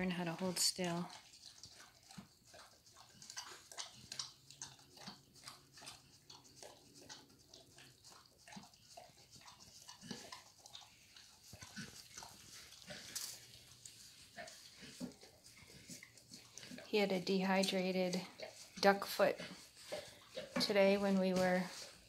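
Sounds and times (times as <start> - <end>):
dog licking metal pan: 0.0 - 22.0.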